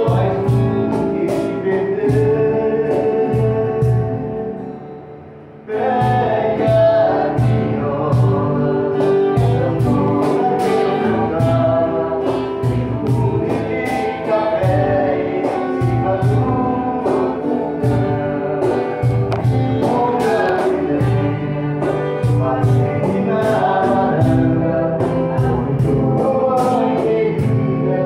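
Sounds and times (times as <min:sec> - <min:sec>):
man singing: 0:00.0 - 0:04.7, 0:05.6 - 0:28.0
acoustic guitars strummed: 0:00.0 - 0:28.0.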